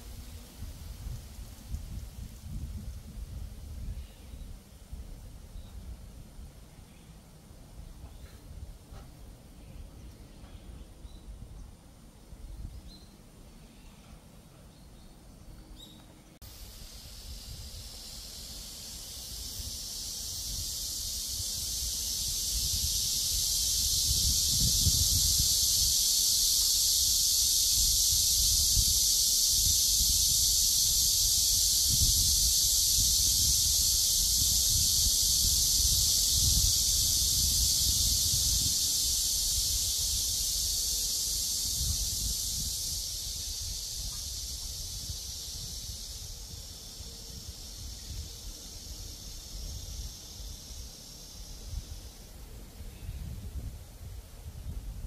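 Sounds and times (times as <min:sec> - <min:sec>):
wind rumbling on microphone: 0:00.0 - 0:06.8, 0:16.6 - 0:52.2, 0:52.8 - 0:55.0
cicadas buzzing: 0:00.0 - 0:55.0.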